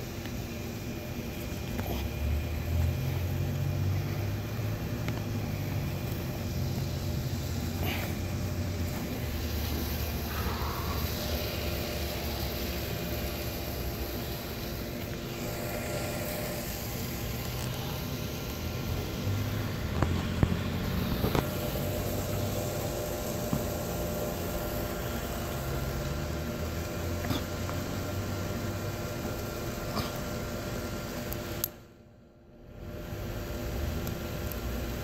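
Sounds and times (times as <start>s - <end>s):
low outdoor rumble: 0.0s - 31.7s.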